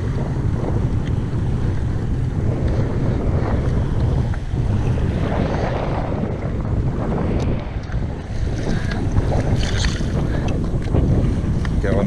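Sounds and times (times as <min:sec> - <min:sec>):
water washing against kayak hull: 0:00.0 - 0:12.0
wind buffeting microphone: 0:00.0 - 0:12.0.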